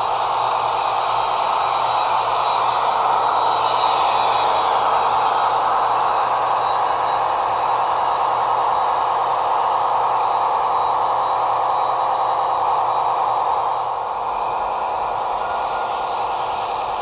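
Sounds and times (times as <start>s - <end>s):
model locomotive whirring: 0.0s - 17.0s.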